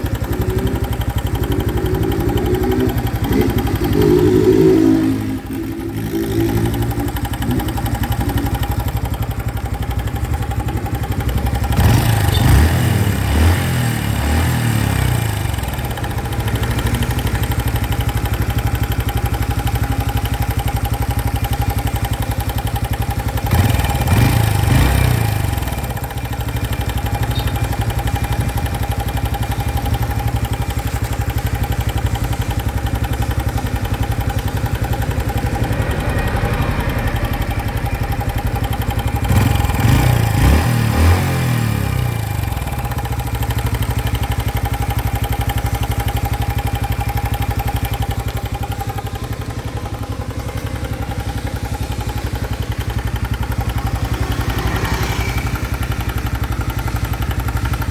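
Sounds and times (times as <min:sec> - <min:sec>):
motorcycle engine idling and revving: 0:00.0 - 0:57.9
steady engine whine: 0:00.0 - 0:57.9.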